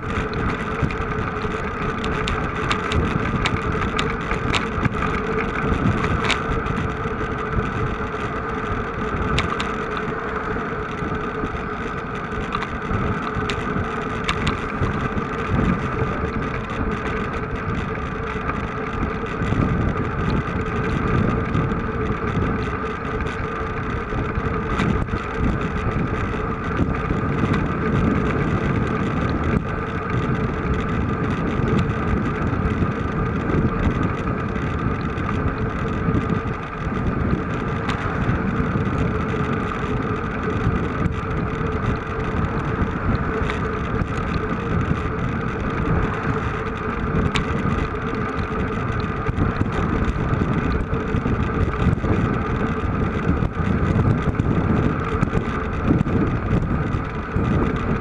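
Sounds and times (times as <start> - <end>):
vehicle engine droning: 0.0 - 58.0
wind rumble on microphone: 0.0 - 58.0.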